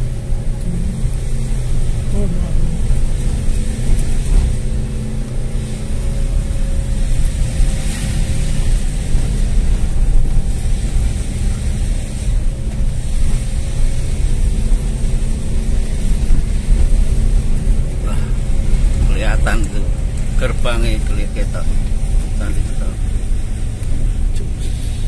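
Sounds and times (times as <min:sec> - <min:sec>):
car engine under load: 0:00.0 - 0:25.0
road noise rumble: 0:00.0 - 0:25.0.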